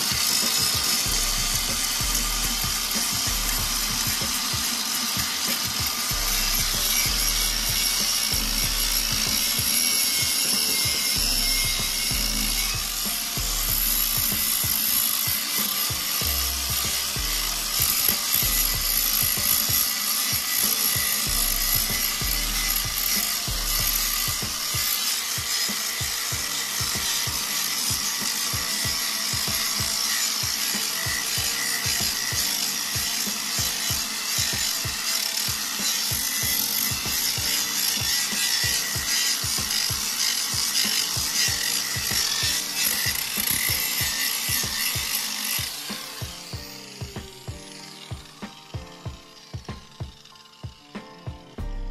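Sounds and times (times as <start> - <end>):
angle grinder sanding metal: 0.0 - 51.9.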